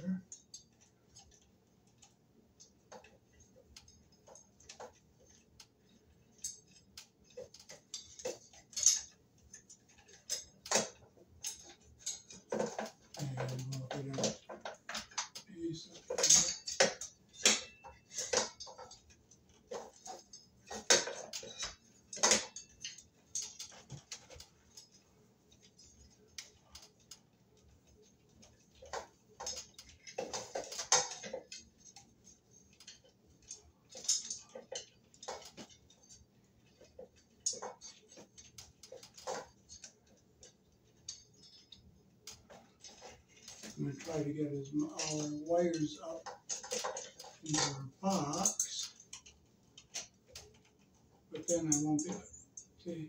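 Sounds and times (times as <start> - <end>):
ceiling fan canopy clicks and scrapes: 0.0 - 53.0.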